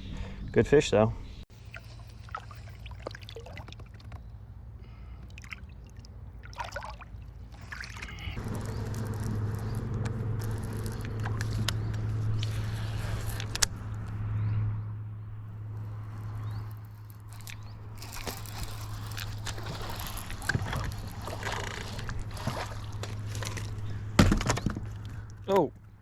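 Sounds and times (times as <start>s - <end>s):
water sloshing and trickling: 1.5s - 14.1s, 15.5s - 25.8s.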